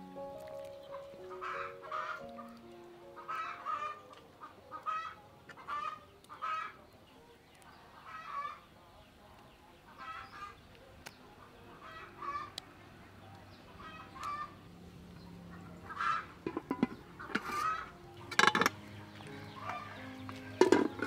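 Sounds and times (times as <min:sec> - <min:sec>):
soft background melody: 0:00.0 - 0:08.0, 0:11.8 - 0:21.0
chickens clucking: 0:00.4 - 0:21.0.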